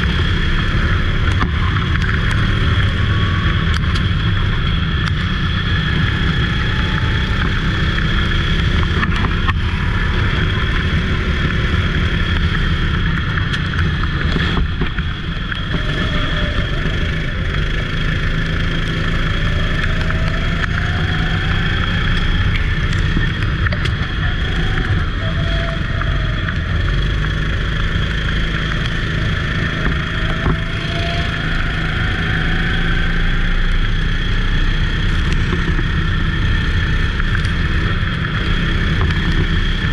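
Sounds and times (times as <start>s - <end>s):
distant kart engines: 0.0s - 39.9s
go-kart engine drone: 0.0s - 39.9s.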